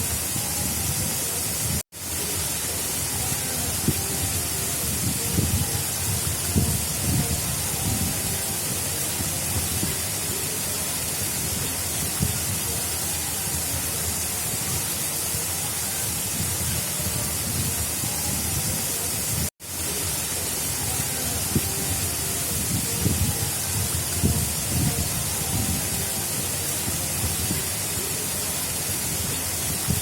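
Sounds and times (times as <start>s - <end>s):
water rushing along a channel: 0.0s - 30.0s.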